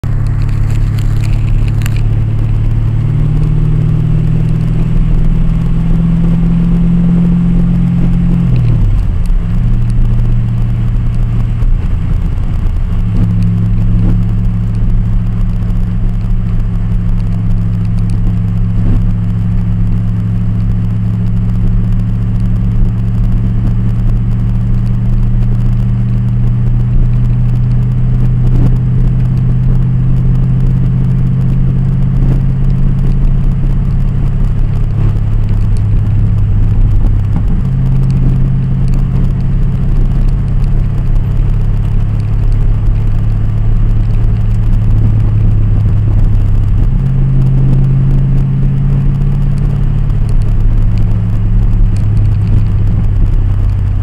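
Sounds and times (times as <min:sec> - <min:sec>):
sports car engine under load: 0:00.0 - 0:54.0
wind rumble on microphone: 0:00.0 - 0:54.0.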